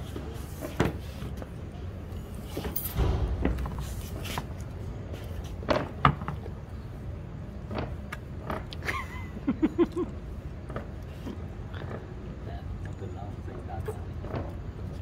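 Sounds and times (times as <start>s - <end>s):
low background rumble: 1.5s - 15.0s.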